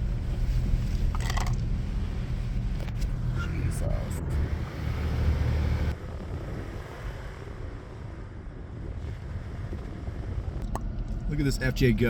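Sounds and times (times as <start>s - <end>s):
off-road vehicle engine rumble: 0.0s - 12.0s.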